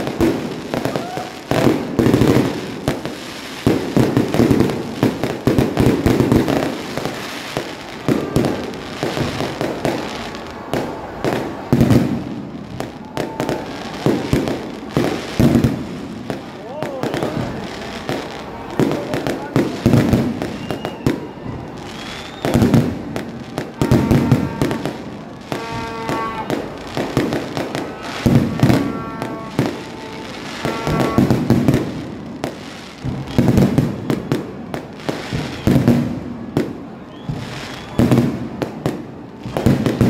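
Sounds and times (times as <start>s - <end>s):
firework crackling: 0.0s - 40.0s
firework shells booming: 0.0s - 40.0s.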